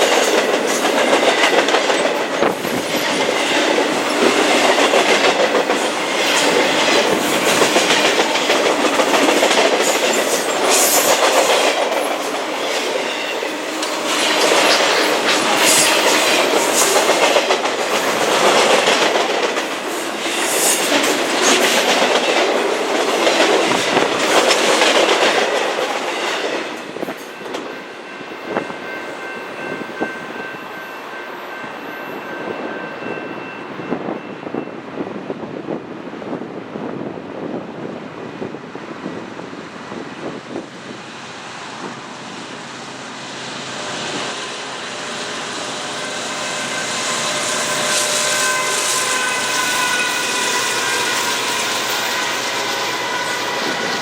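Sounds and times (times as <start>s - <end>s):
train wheels clattering on rails: 0.0s - 34.9s, 43.7s - 54.0s
wind noise: 0.0s - 54.0s.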